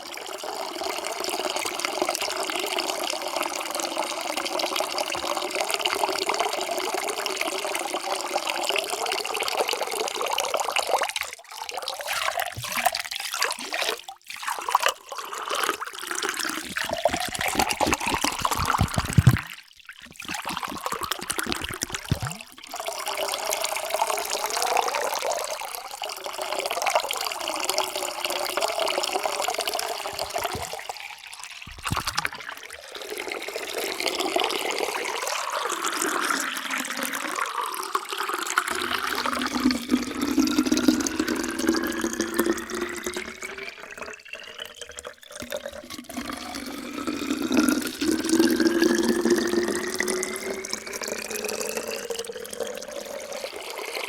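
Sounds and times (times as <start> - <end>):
water pouring into a container: 0.0 - 54.0.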